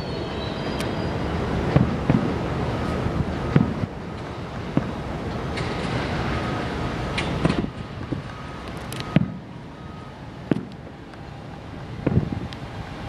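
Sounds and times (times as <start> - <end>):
distant fireworks booming: 0.7 - 11.0, 12.0 - 12.5.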